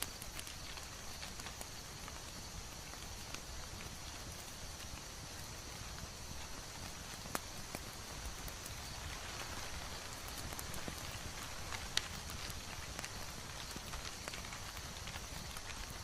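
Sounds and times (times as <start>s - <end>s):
soft crackling hiss: 0.0s - 16.0s.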